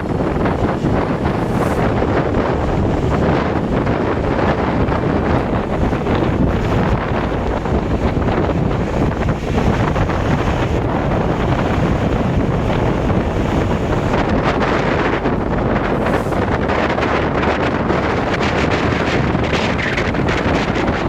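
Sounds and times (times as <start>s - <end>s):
storm wind buffeting microphone: 0.0s - 21.0s.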